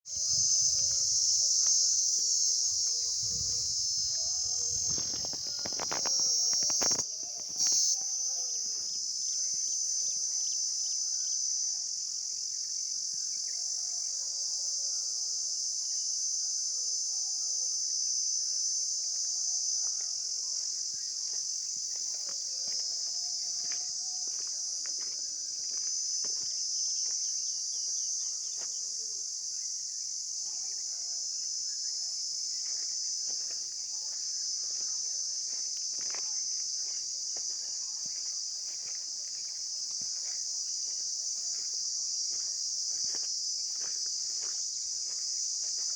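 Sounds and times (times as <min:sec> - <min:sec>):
insects chirring chorus: 0:00.0 - 0:45.9.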